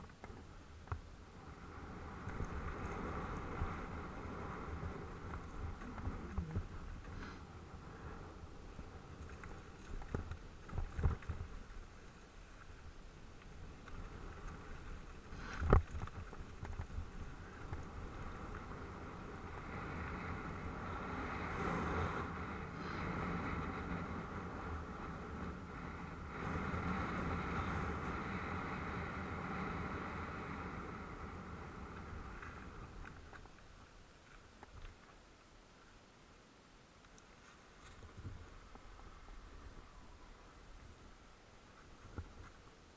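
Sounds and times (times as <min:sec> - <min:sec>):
bike tyres on dirt: 0:00.0 - 0:36.4, 0:37.0 - 0:42.9.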